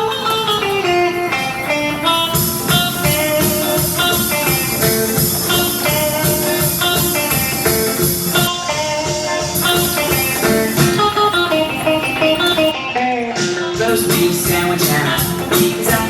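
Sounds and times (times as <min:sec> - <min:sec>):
guitar intro: 0:00.0 - 0:16.0
full band with steady beat: 0:00.1 - 0:16.0.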